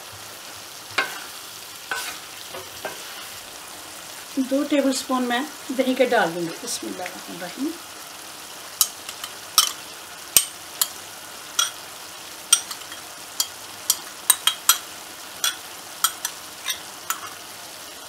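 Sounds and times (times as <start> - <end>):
low frying sizzle: 0.0 - 18.0.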